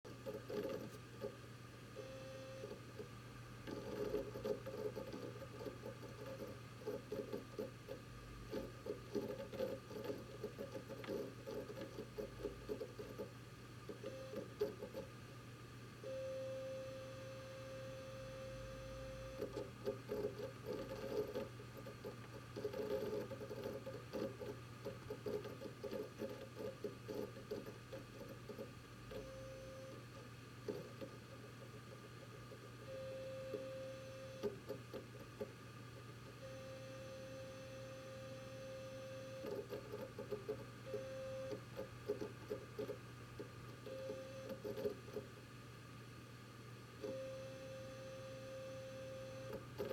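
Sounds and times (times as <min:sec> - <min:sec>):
hard drive seek clicks: 0:00.1 - 0:15.2, 0:17.4 - 0:45.6, 0:47.0 - 0:49.9
steady hum: 0:00.1 - 0:49.9.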